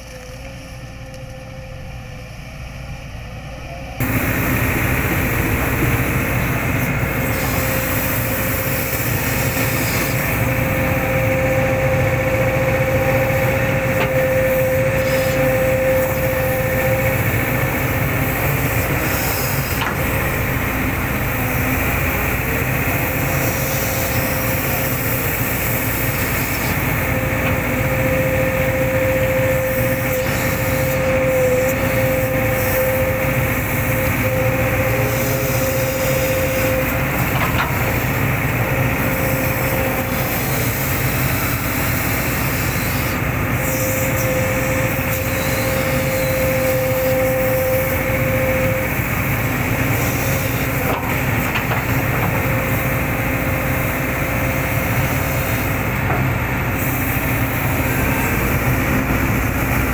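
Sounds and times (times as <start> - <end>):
excavator diesel engine running: 0.0 - 59.9
steady whine: 0.0 - 59.9.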